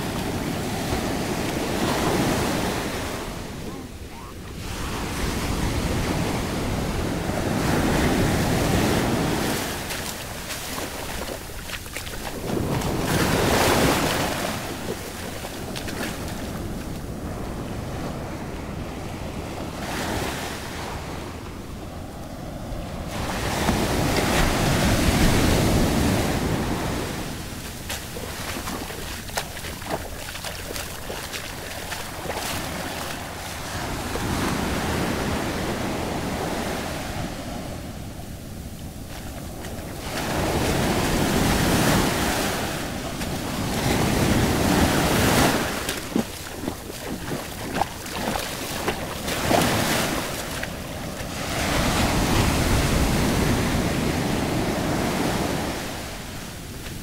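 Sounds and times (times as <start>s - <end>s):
ocean waves washing up shore: 0.0s - 57.0s.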